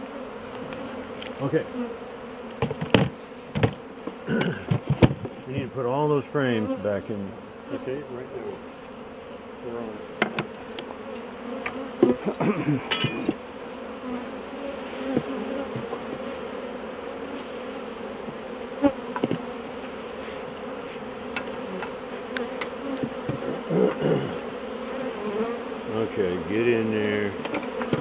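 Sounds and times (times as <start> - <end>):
honeybees buzzing: 0.0 - 28.0
knocks of wooden hive frames: 0.4 - 6.8, 8.6 - 13.7, 14.9 - 16.6, 18.1 - 28.0.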